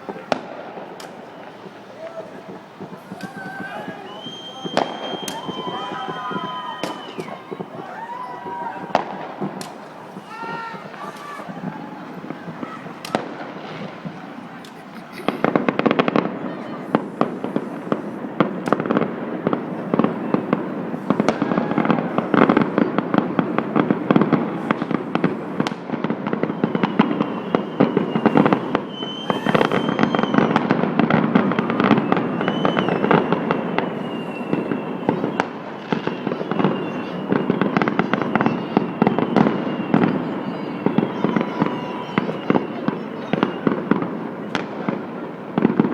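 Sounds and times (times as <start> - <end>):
firework whistles: 0.0 - 45.9
fireworks crackling and banging: 0.0 - 45.9.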